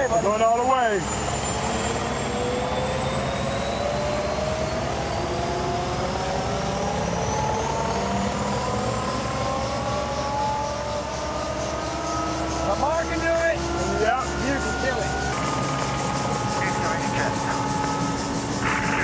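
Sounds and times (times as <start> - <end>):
helicopter rotor beat: 0.0 - 19.0
turbine whine rising: 0.0 - 19.0.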